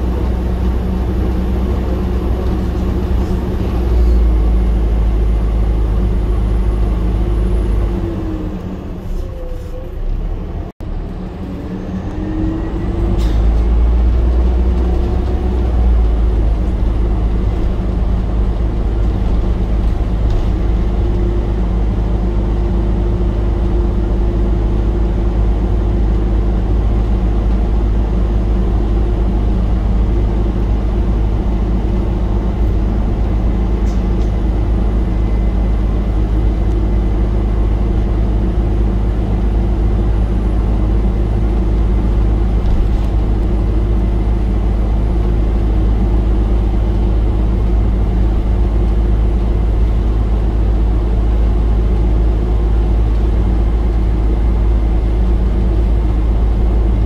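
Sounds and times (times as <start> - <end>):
bus diesel engine under load: 0.0 - 57.0.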